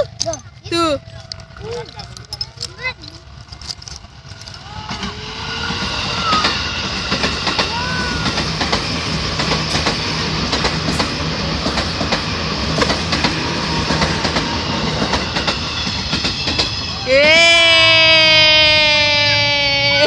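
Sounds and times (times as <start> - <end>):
wheels clicking over track joints: 0.0 - 16.8
train wheels rumbling on rails: 0.0 - 20.0.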